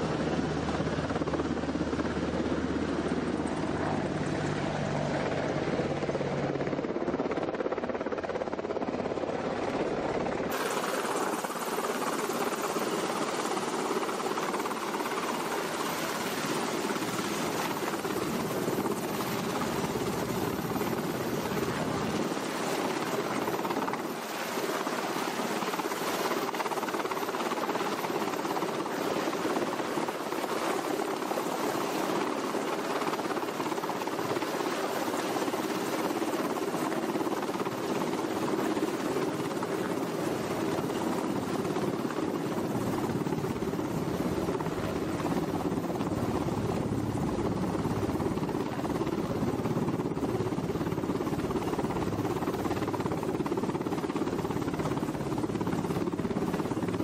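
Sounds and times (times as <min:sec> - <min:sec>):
helicopter hovering overhead: 0:00.0 - 0:57.0.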